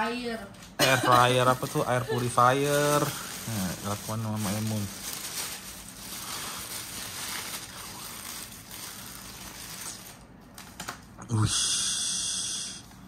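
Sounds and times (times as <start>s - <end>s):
plastic bag and paper boxes rustling: 0.5s - 11.1s.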